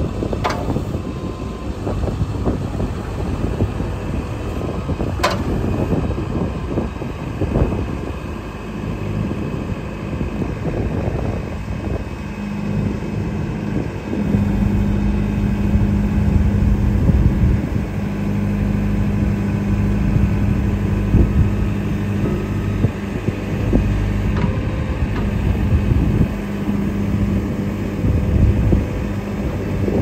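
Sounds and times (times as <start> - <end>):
hydraulic boom moving: 0.0 - 7.8, 10.6 - 30.0
diesel engine running: 0.0 - 30.0.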